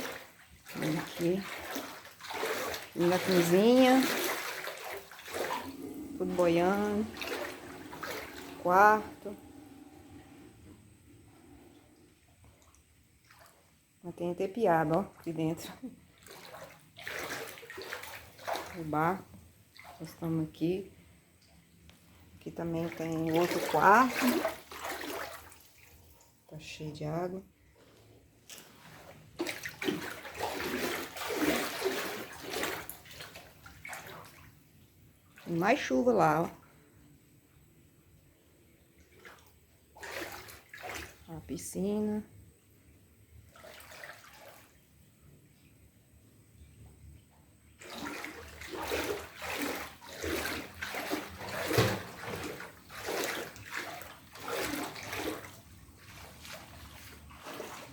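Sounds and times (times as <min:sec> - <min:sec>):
water sloshing and splashing: 0:00.0 - 0:36.9, 0:38.8 - 0:45.7, 0:47.6 - 0:57.9.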